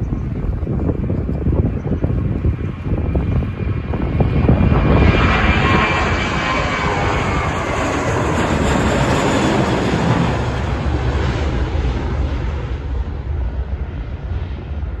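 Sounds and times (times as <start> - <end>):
airliner passing low overhead: 0.0 - 15.0.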